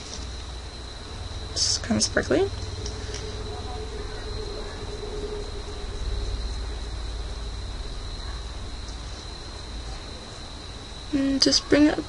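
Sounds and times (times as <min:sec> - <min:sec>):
high-pitched whine: 0:00.0 - 0:12.0
low background hum and hiss: 0:00.0 - 0:12.0.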